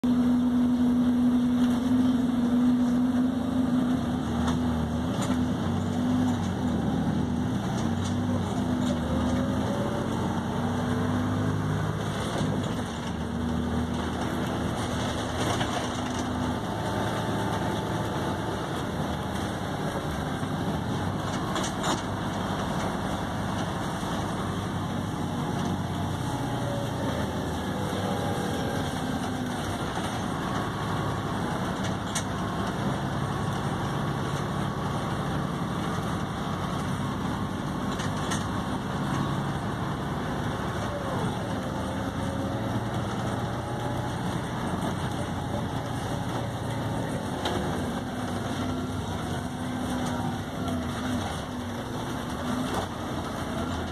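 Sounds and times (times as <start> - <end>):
bus engine drone: 0.0 - 53.9
faint whines gliding in pitch: 0.0 - 53.9.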